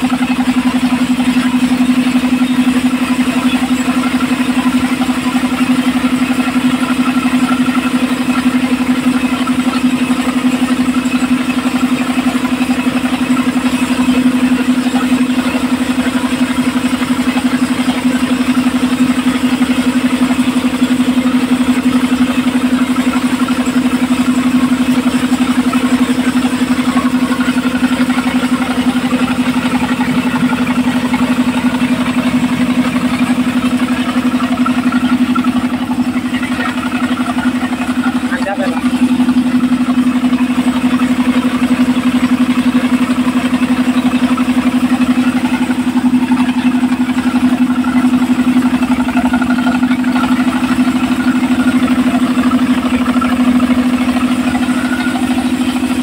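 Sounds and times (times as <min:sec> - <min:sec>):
sawmill engine humming: 0:00.0 - 0:56.0.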